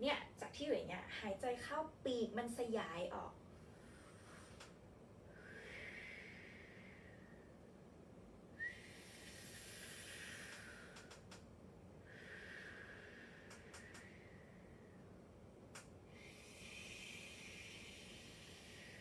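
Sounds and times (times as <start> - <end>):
woman breathing deeply: 3.6 - 19.0.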